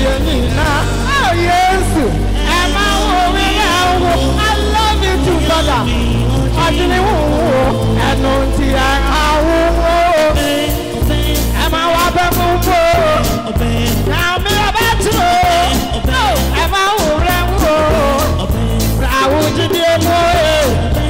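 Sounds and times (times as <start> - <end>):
backing music with heavy bass: 0.0 - 21.0
man singing into microphone: 0.0 - 21.0.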